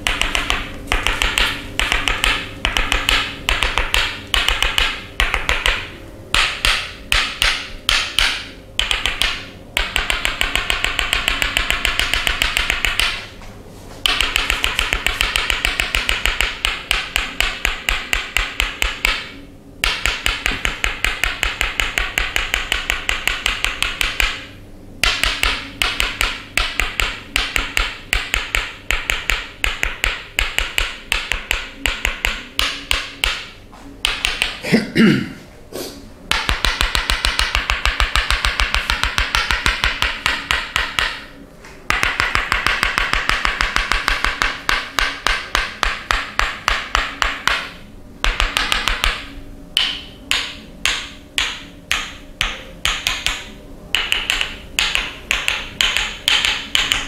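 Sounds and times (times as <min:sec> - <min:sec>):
wooden mallet tapping wooden wedge: 0:00.0 - 0:13.3, 0:14.0 - 0:34.6, 0:36.3 - 0:57.0.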